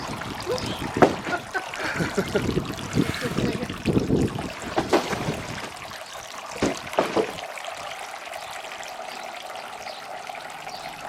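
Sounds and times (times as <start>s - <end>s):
small waterfall trickling: 0.0s - 11.0s.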